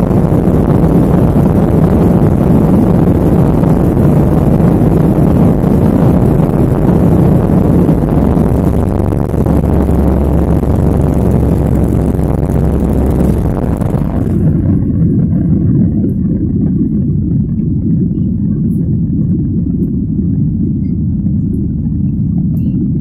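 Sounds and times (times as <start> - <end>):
jet engines roaring: 0.0 - 23.0
wheels rumbling on runway: 0.0 - 23.0.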